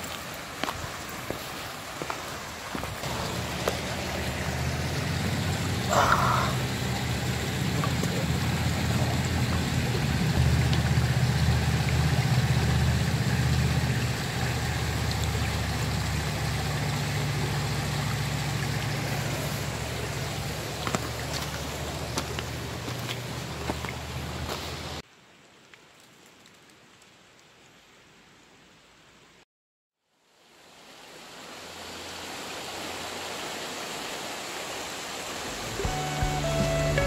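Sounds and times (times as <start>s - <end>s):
river flowing over rocks: 0.0s - 25.0s, 30.4s - 37.0s.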